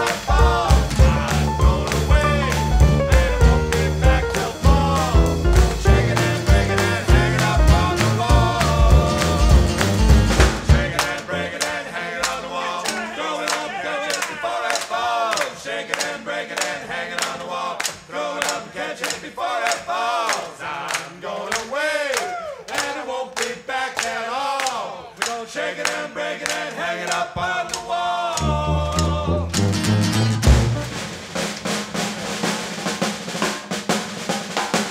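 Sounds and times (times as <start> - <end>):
group of voices singing: 0.0 - 30.0.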